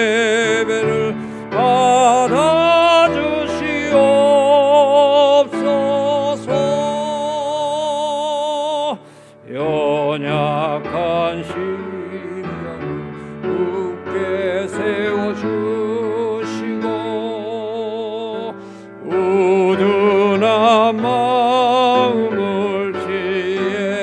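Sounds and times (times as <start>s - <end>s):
person singing a hymn with vibrato: 0.0s - 24.0s.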